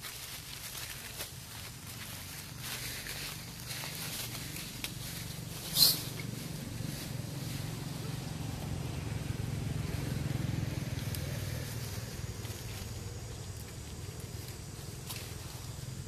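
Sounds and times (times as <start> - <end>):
vehicle engine running: 0.1 - 16.0.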